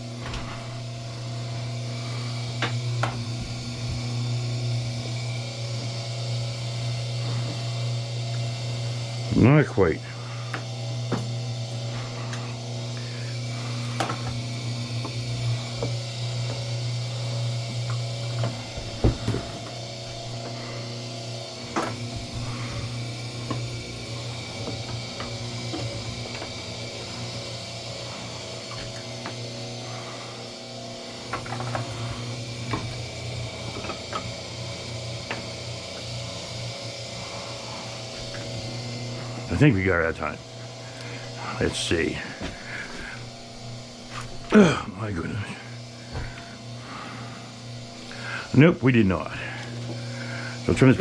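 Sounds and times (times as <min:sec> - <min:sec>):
wire stripping machine motor hum: 0:00.0 - 0:51.0.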